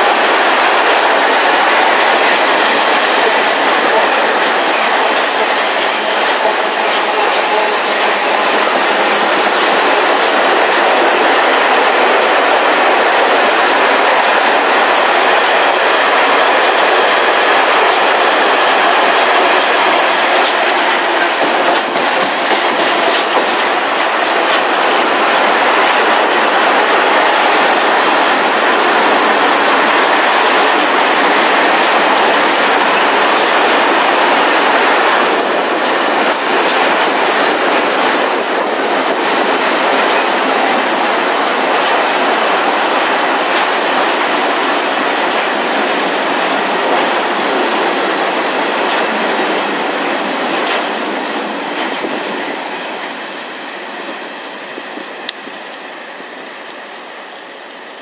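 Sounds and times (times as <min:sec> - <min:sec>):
clickety-clack over track: 0:00.0 - 0:58.0
train wheels rushing on rails: 0:00.0 - 0:58.0.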